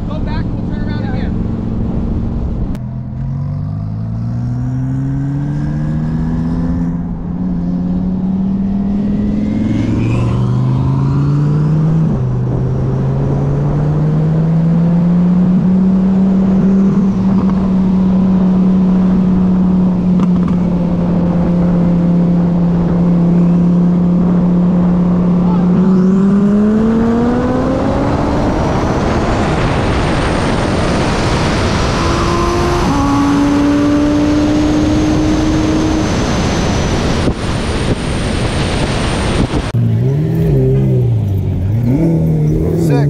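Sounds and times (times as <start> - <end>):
car engine accelerating: 0.0 - 43.0
road and wind rush: 0.0 - 43.0.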